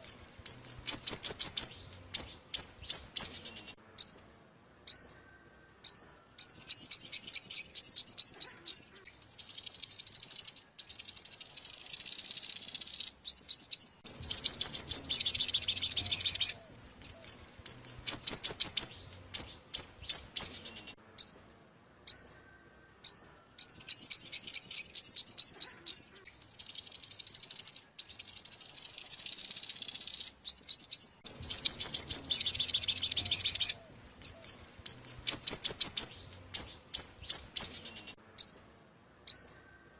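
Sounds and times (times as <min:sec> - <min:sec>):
sunbird song: 0:00.0 - 0:39.9.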